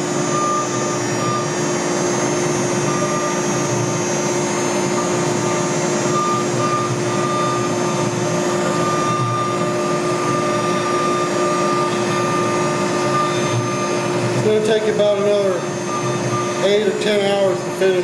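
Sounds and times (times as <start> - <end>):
router spindle whine: 0.0 - 18.0.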